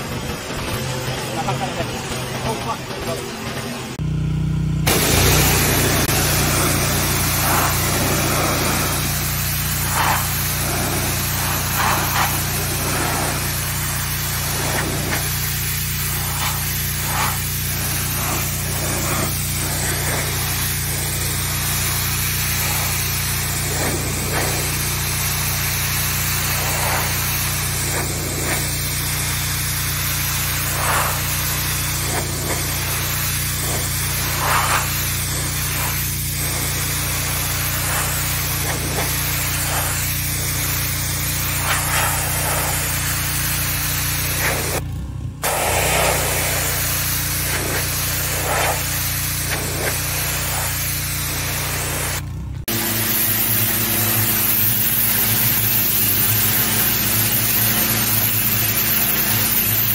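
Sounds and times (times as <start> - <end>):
pressure washer drone: 0.0 - 59.9
water jet hissing on stone: 4.9 - 44.8, 45.4 - 59.9.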